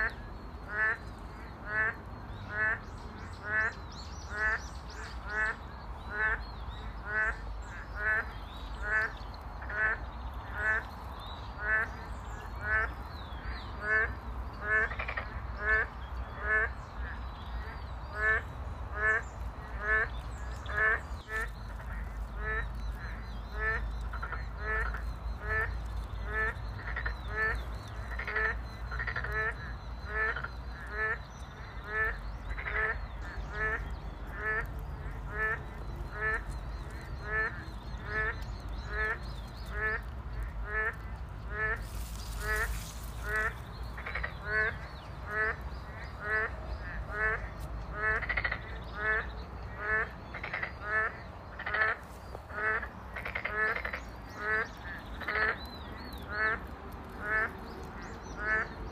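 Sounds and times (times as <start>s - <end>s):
frogs calling: 0.0s - 58.9s.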